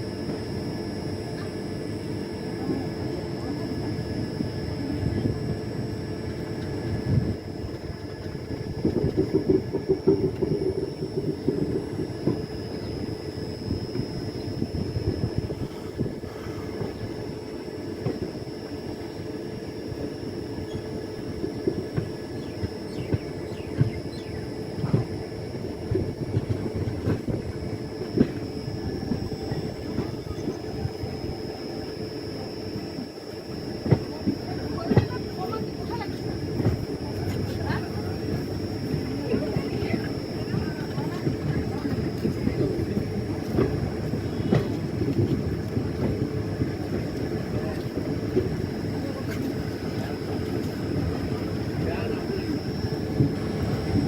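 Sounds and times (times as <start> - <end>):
train wheels rumbling: 2.4 - 54.0.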